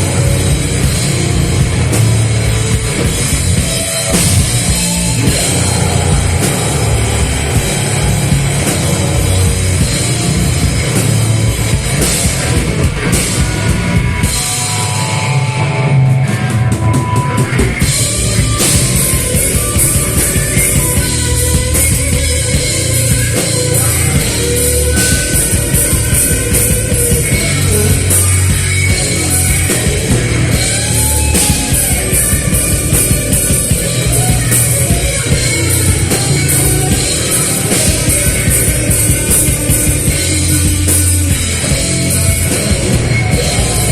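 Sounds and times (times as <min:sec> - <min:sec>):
drum kit: 0:00.0 - 0:43.9
rock band playing loudly: 0:00.0 - 0:43.9.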